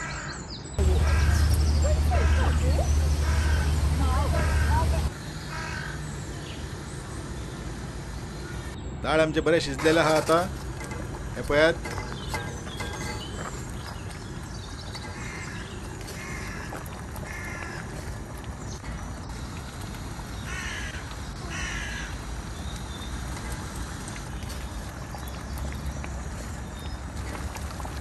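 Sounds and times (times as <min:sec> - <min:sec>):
bird calling: 0:00.0 - 0:07.4, 0:10.9 - 0:27.5
dal simmering and bubbling: 0:00.8 - 0:08.8, 0:09.7 - 0:28.0.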